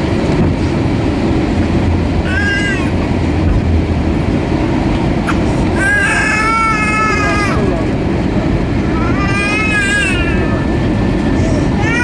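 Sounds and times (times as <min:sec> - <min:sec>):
airliner cabin engine noise: 0:00.0 - 0:12.0.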